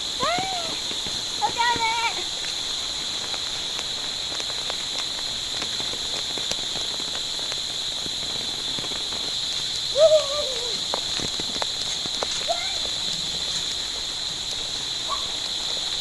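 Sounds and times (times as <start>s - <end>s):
rain falling: 0.0s - 16.0s
raindrop ticks: 0.0s - 16.0s.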